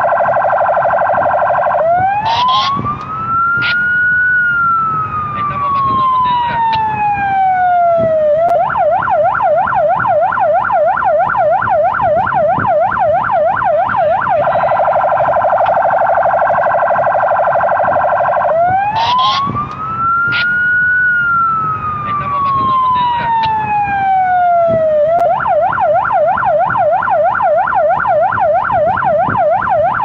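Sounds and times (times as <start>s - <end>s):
police siren cycling tones: 0.0s - 30.0s.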